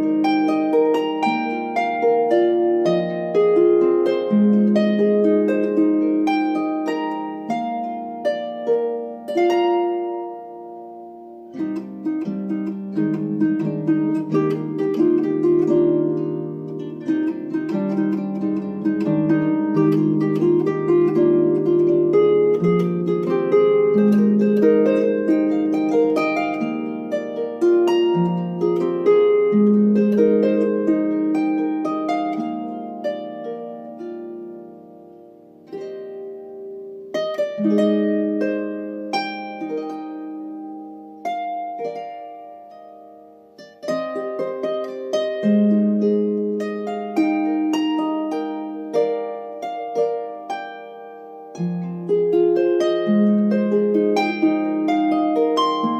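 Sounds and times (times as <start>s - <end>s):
harp playing: 0.0s - 55.9s.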